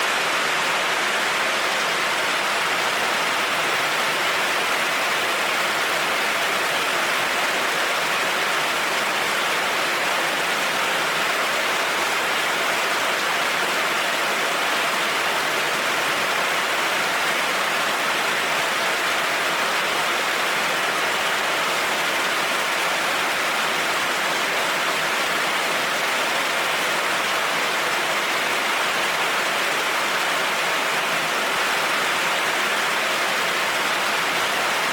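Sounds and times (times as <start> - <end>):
heavy rain on a road: 0.0 - 34.9.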